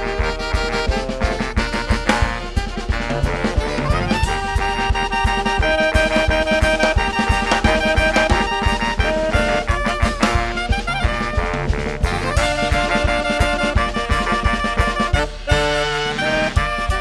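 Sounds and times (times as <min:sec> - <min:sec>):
quick percussion beat: 0:00.0 - 0:17.0
saxophone melody: 0:00.0 - 0:17.0.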